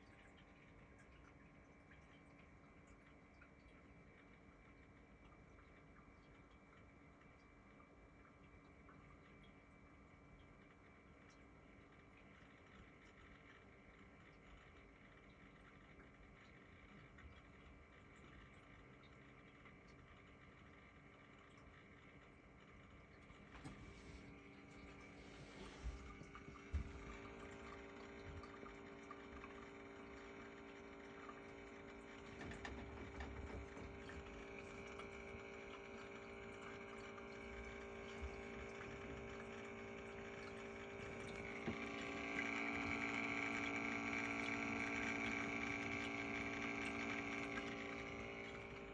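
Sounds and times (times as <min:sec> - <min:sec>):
small pump humming and grinding: 0:00.0 - 0:48.9
water trickling: 0:00.0 - 0:48.9.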